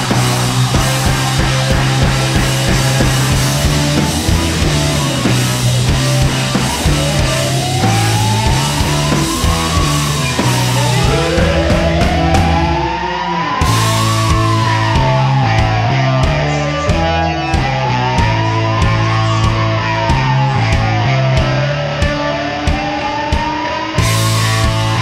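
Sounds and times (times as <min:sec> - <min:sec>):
fire engine siren wailing: 0:00.0 - 0:25.0
rock music with drums and bass: 0:00.0 - 0:25.0.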